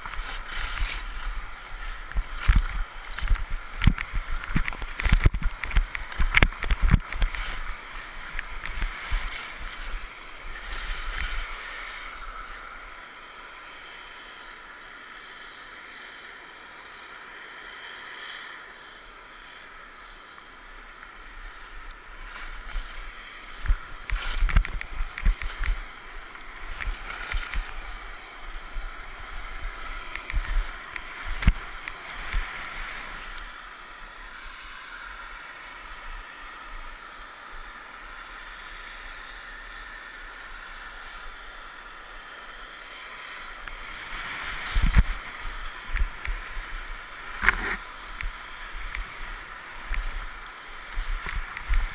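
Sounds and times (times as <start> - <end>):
skis scraping over snow: 0.0 - 14.6, 17.8 - 35.0, 39.2 - 51.9.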